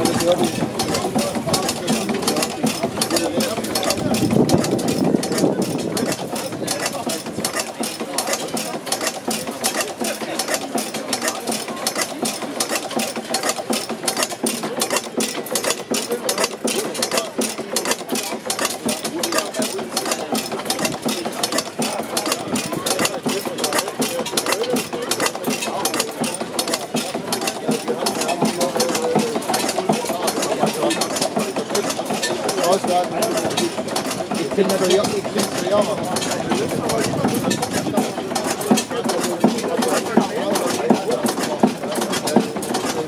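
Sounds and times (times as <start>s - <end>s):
rhythmic mechanical clatter: 0.0s - 43.0s
stationary gas engine running: 0.0s - 43.0s.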